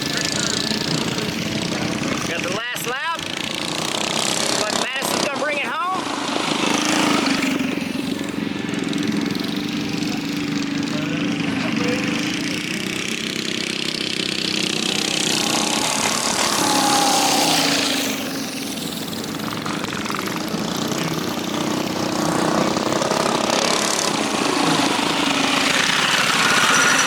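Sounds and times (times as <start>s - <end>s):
small engines racing and revving: 0.0s - 27.0s.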